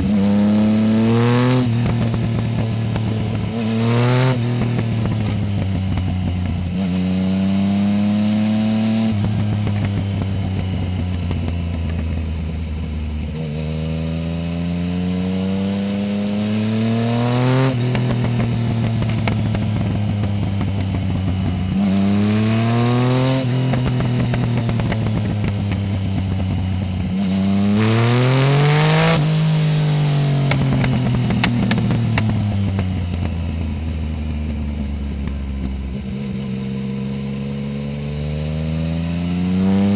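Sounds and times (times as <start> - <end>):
motorcycle engine accelerating hard: 0.0 - 39.9.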